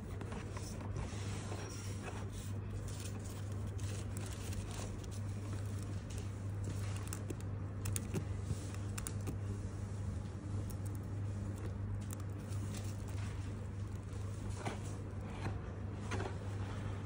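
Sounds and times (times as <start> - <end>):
paper and plastic rustling: 0.0 - 9.4, 10.7 - 16.9.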